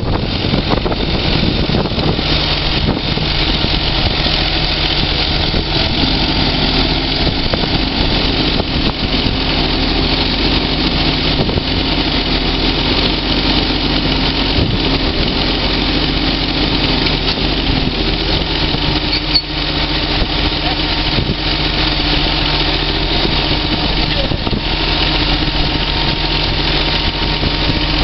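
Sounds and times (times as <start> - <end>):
heavy diesel machinery running: 0.0 - 28.0
high steady whine: 0.0 - 28.0.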